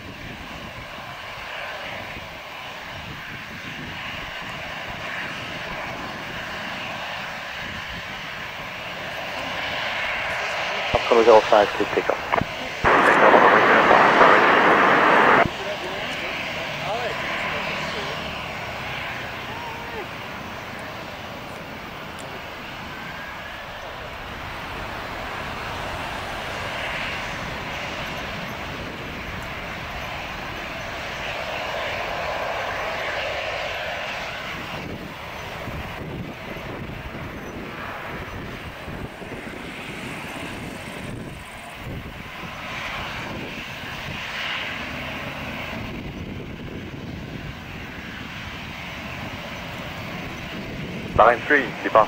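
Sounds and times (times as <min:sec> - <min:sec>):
jet engines roaring at takeoff: 0:00.0 - 0:52.0.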